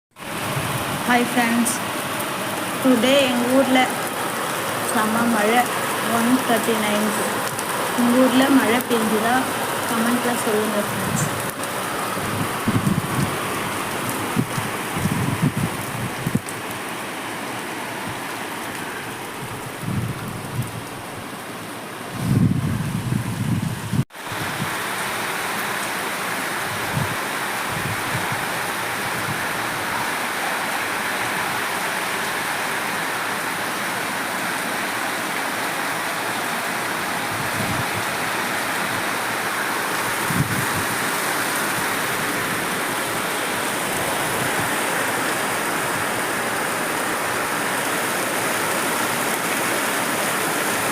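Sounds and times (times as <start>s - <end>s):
heavy rain pouring: 0.1s - 50.9s.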